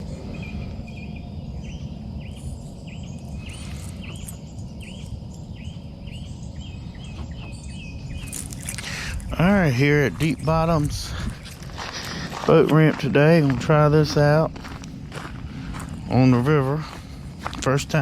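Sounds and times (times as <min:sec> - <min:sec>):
bird chirping: 0:00.0 - 0:18.0
low outdoor rumble: 0:00.0 - 0:18.0.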